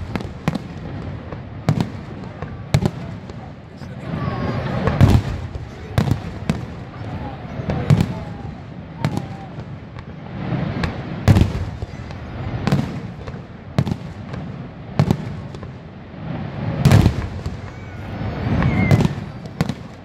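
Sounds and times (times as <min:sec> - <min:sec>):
fireworks bangs and booms: 0:00.0 - 0:20.0.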